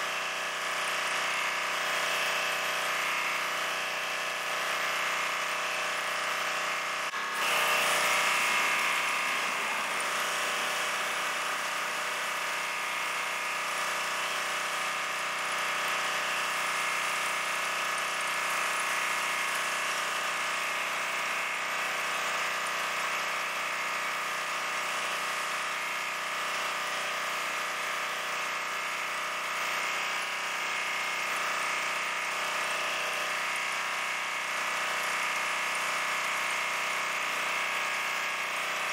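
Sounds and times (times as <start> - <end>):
gas engine running: 0.0 - 38.9.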